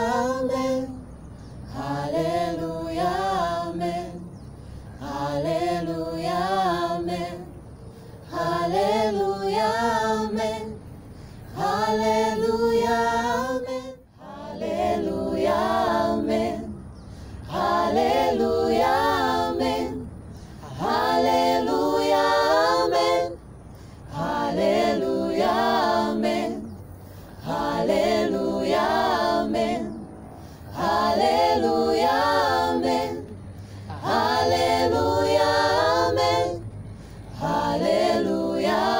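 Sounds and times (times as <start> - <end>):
group singing a cappella: 0.0 - 38.9.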